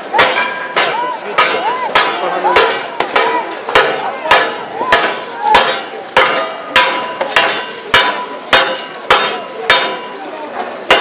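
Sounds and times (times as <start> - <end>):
metal struck ringing: 0.2 - 10.2.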